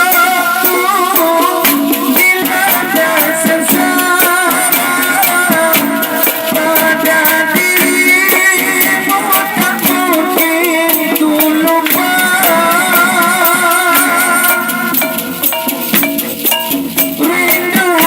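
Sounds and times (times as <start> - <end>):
steady percussion: 0.0 - 18.0.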